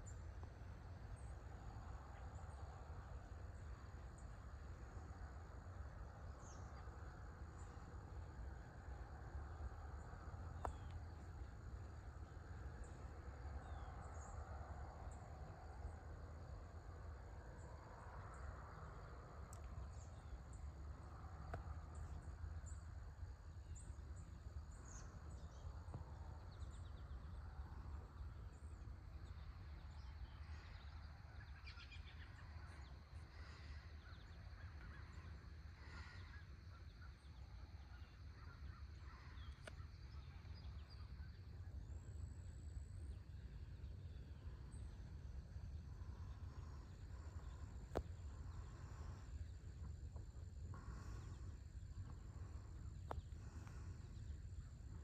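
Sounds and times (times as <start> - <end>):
distant bird calls: 0.0 - 55.0
insects chirring: 1.0 - 55.0.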